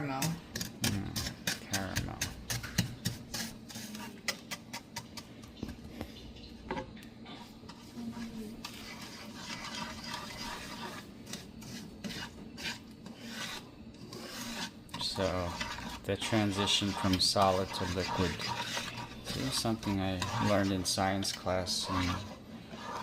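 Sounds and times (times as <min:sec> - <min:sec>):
utensil scraping in a pan: 0:00.0 - 0:23.0.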